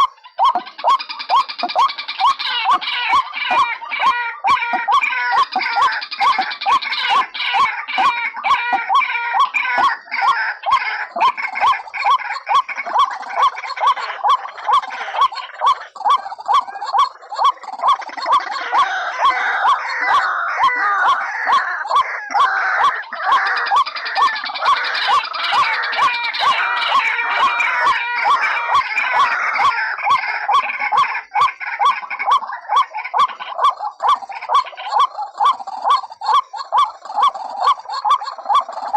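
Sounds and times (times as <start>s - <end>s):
waterhen calling: 0.0s - 38.9s.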